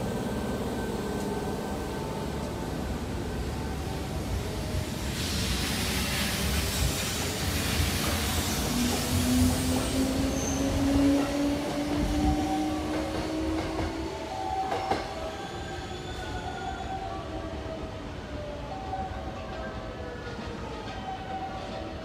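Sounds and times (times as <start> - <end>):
electric train accelerating: 0.0 - 22.0.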